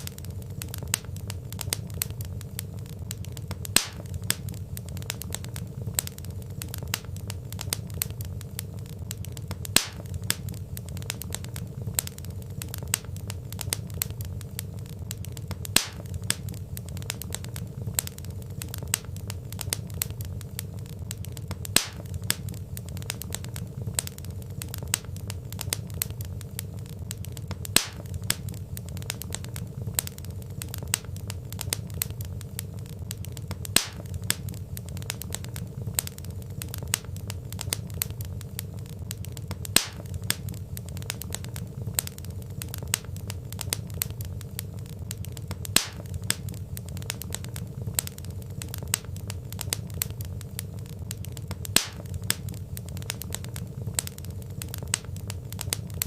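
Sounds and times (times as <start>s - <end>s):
loud sharp pop of fire: 0.0s - 56.0s
low rumble of flame: 0.0s - 56.0s
wood fire crackling: 0.0s - 56.0s.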